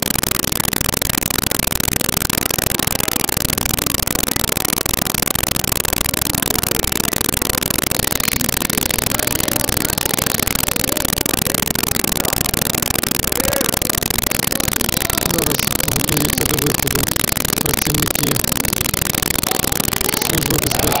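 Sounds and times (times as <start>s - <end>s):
loud steady recording hiss: 0.0s - 21.0s
faint crowd voices: 2.2s - 21.0s.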